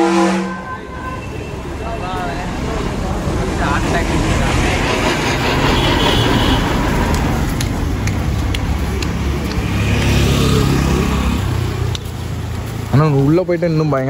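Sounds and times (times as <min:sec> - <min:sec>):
engine humming: 0:00.0 - 0:14.0
road traffic passing: 0:00.0 - 0:14.0.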